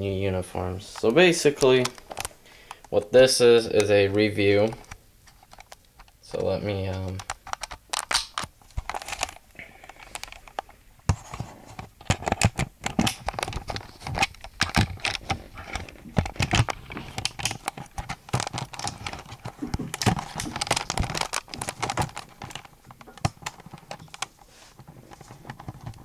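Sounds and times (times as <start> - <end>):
things rustling and clattering: 3.8 - 26.0.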